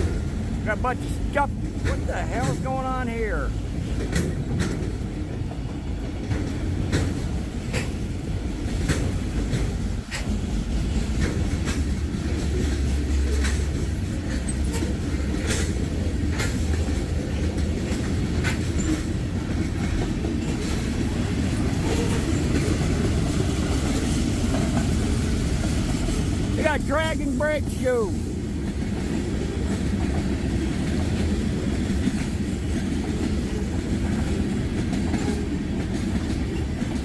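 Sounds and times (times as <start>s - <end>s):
wheels clacking over rail joints: 0.0s - 27.2s, 28.2s - 37.0s
train wheels rumbling on rail: 0.0s - 37.0s.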